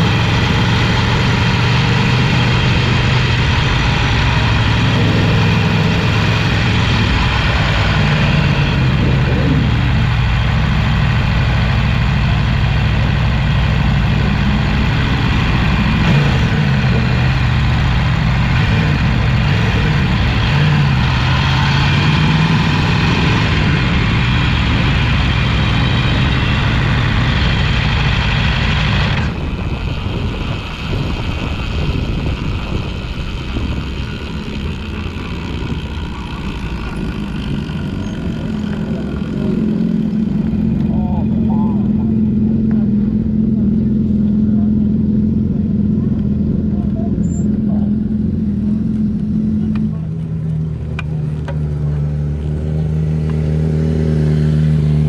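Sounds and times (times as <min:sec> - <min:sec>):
motorcycle engine idling: 0:00.0 - 0:21.2, 0:22.6 - 0:52.4
rough quiet rumble: 0:00.0 - 0:52.9.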